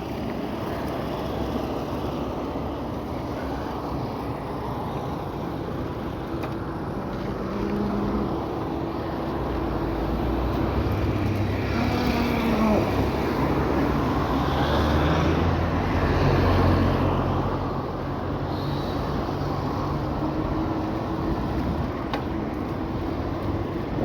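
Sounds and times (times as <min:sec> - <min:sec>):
cars passing: 0:00.0 - 0:24.0
engine hum of passing vehicles: 0:00.0 - 0:24.0.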